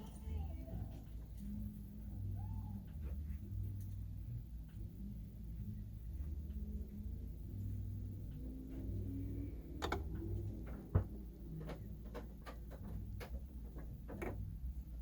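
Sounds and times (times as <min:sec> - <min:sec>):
turntable low steady hum: 0:00.0 - 0:15.0.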